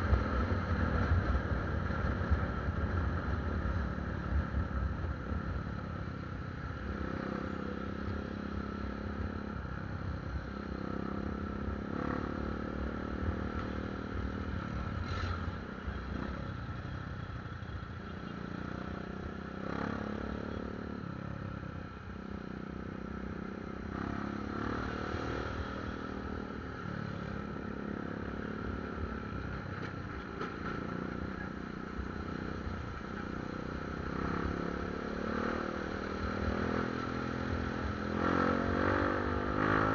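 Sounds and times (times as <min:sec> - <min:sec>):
motorcycle engine revving: 0:00.0 - 0:39.9
surrounding traffic noise: 0:00.0 - 0:39.9.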